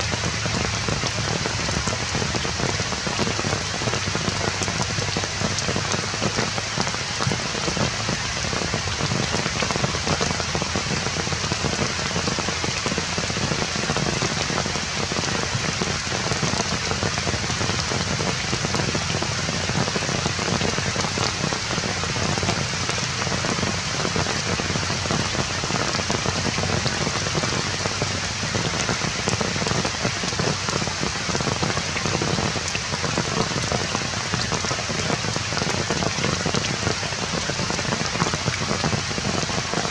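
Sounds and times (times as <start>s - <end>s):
raindrops striking surfaces: 0.0s - 39.9s
steady rain falling: 0.0s - 39.9s.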